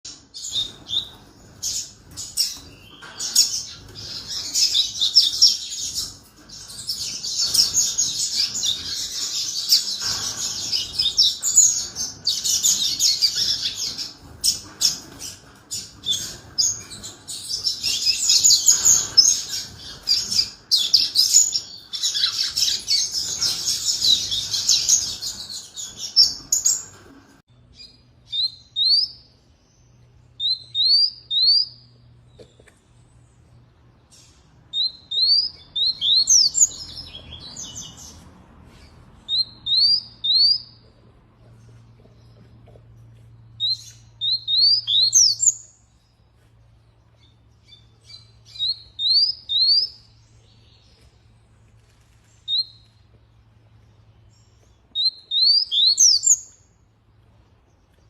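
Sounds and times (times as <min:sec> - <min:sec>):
canary singing: 0:00.0 - 0:32.2, 0:33.6 - 0:51.1, 0:52.4 - 0:56.8.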